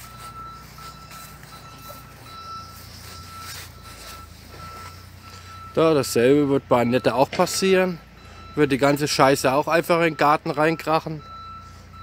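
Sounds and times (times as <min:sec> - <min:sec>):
reversing alarm beeping: 0:00.0 - 0:12.0
vehicle engine running: 0:00.0 - 0:12.0.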